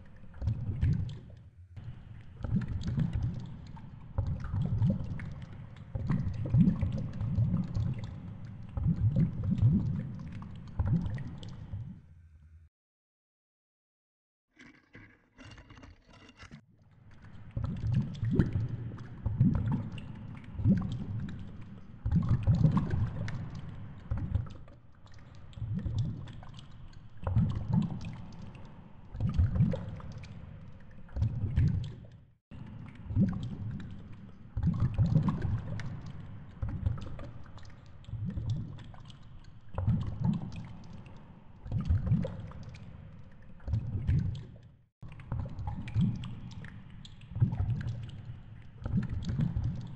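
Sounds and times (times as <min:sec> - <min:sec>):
rushing water underwater: 0:00.0 - 0:11.9, 0:15.4 - 0:49.9.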